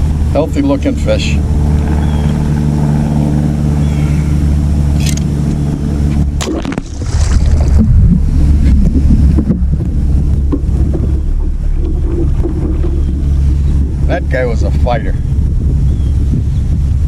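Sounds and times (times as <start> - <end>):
boat motor running: 0.0 - 17.0
rumble of wind and water: 0.0 - 17.0.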